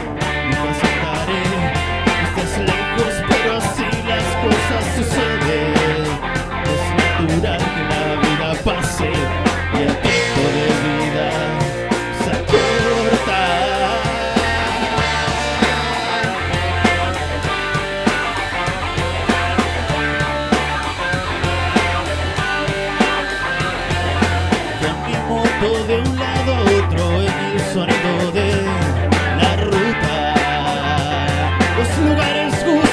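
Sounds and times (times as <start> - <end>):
instrumental rock music: 0.0 - 32.9.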